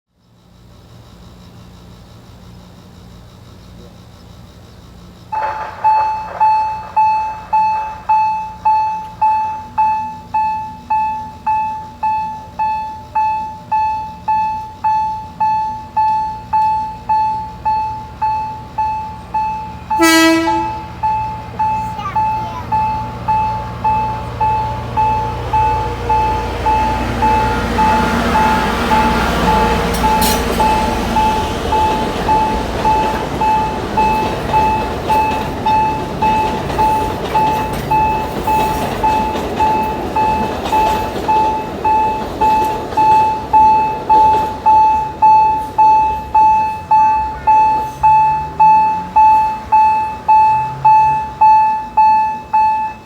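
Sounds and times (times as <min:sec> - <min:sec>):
train rumbling by: 0:05.1 - 0:53.0
railroad crossing bell ringing: 0:05.3 - 0:53.0.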